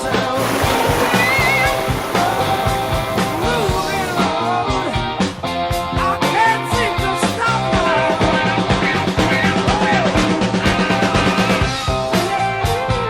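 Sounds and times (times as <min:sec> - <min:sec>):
steady drum beat: 0:00.0 - 0:11.5
electric guitar: 0:00.0 - 0:13.0.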